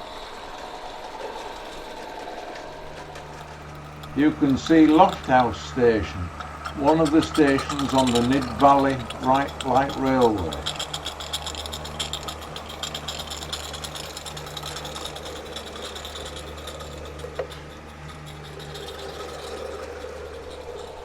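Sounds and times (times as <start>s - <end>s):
model train mechanical hum: 0.0s - 21.0s
fast dense clicking: 0.4s - 21.0s.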